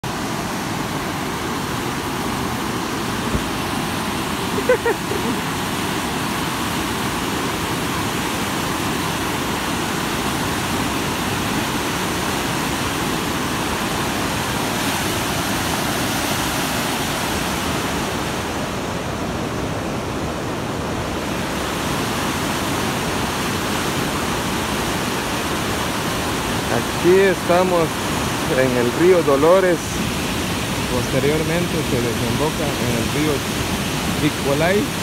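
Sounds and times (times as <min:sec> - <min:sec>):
river rushing through rapids: 0:00.0 - 0:35.0.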